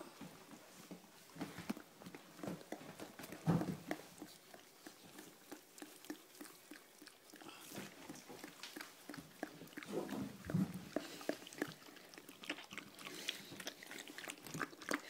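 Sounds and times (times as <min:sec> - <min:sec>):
dog licking puppy: 0:00.7 - 0:15.0.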